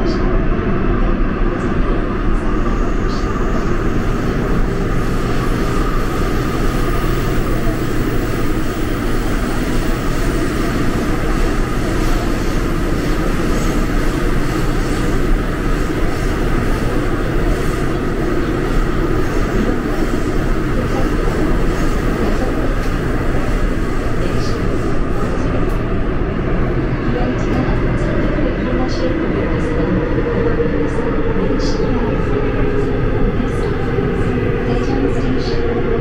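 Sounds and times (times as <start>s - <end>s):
subway train rumbling: 0.0s - 36.0s.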